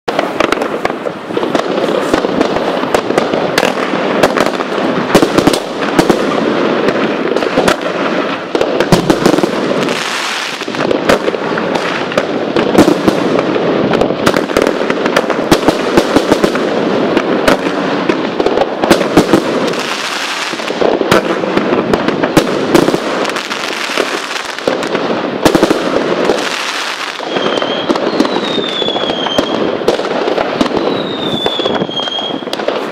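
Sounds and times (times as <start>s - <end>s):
crackling firework sparks: 0.1s - 32.9s
fireworks launches and bursts: 0.1s - 32.9s
fireworks whistles: 0.1s - 32.9s.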